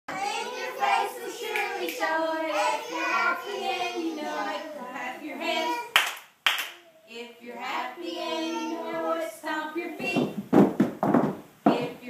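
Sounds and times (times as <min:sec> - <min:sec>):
girls singing unaccompanied: 0:00.1 - 0:06.0, 0:07.0 - 0:10.5, 0:11.6 - 0:12.0.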